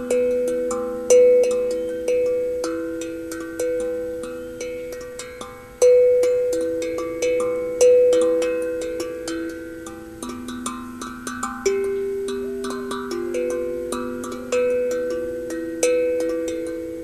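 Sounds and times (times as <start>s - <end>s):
steel tongue drum melody: 0.0s - 17.0s.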